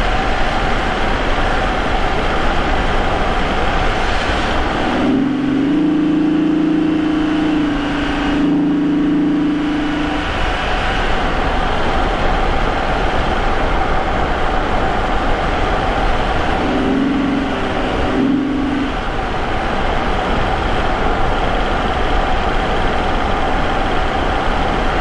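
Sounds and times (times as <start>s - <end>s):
car engine cruising: 0.0s - 24.1s.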